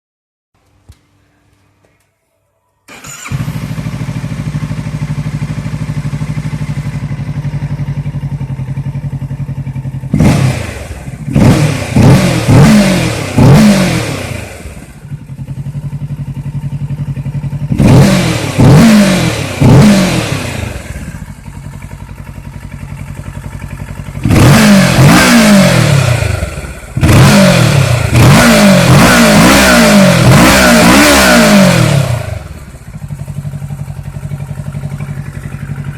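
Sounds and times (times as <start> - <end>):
motorcycle engine idling and revving: 2.9 - 35.9.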